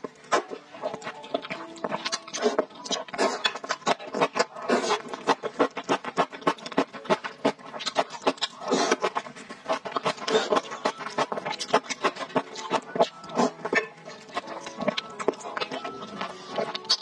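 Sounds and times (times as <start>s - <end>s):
chewing and slurping noodles: 0.0s - 17.0s
wet smacking mouth sounds: 0.3s - 17.0s.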